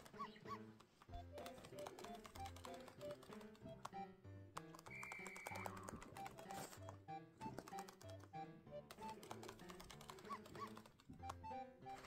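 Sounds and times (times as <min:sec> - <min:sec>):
quick tapping clicks: 0:00.0 - 0:12.0
quiet background music: 0:00.0 - 0:12.0.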